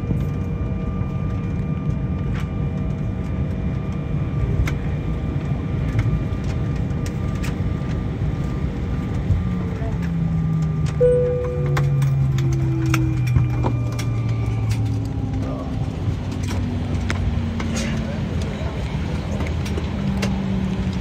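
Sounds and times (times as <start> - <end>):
airliner cabin rumble: 0.0 - 21.0
jet engine whining: 0.0 - 21.0.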